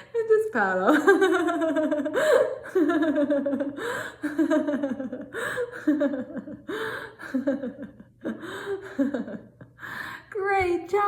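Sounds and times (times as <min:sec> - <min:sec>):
woman laughing: 0:00.9 - 0:09.8.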